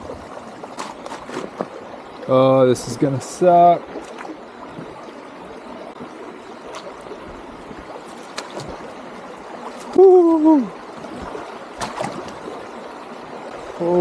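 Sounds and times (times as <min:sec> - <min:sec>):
creek water flowing: 0:00.0 - 0:14.0
splashes of wading: 0:00.0 - 0:14.0.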